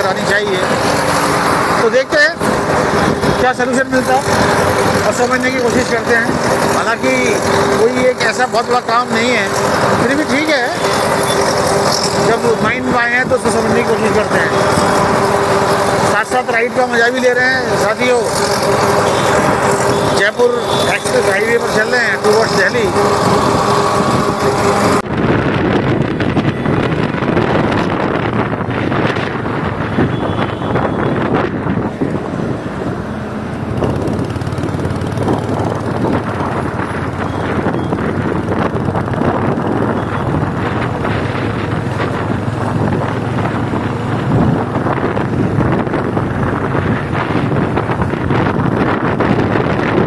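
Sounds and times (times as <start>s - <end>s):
wind buffeting on microphone: 0.0s - 16.8s, 17.5s - 50.0s
motorcycle engine running: 0.0s - 50.0s
road noise: 0.0s - 50.0s.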